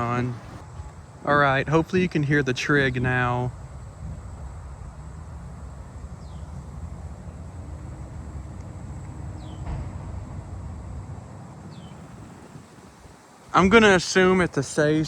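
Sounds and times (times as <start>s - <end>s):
cricket trilling: 0.0s - 15.0s
traffic rumble: 0.0s - 15.0s
wind: 0.0s - 15.0s.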